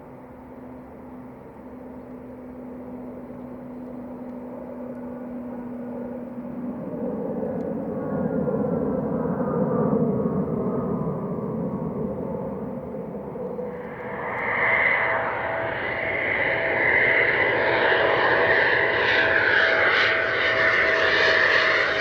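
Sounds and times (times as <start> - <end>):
jet rumble with high whine: 0.0 - 22.0.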